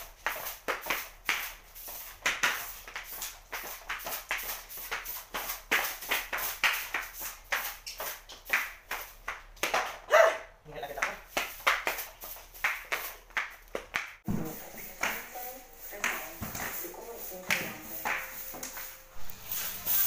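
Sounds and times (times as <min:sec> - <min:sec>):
broom sweeping tiled floor: 0:00.0 - 0:10.0, 0:11.1 - 0:20.0.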